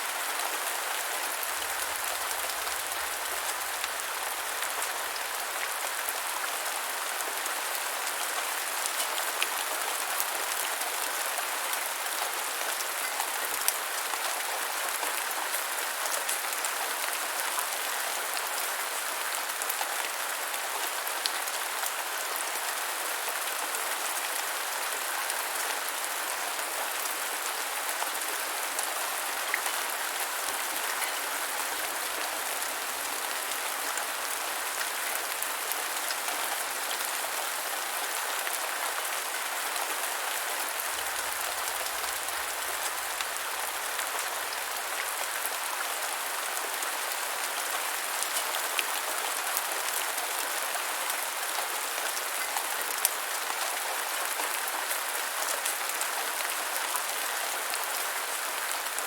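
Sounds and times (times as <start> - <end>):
rain falling on ground: 0.0 - 59.0.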